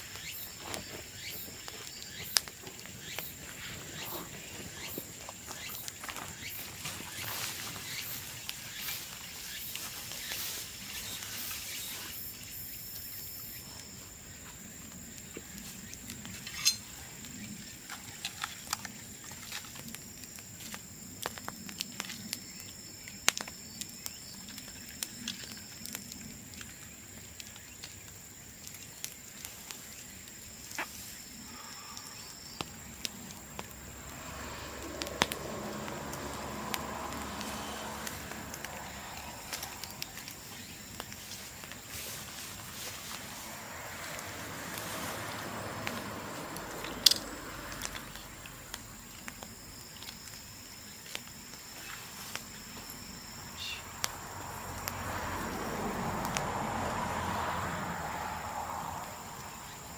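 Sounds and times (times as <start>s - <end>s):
bamboo fire crackling: 0.0s - 59.9s.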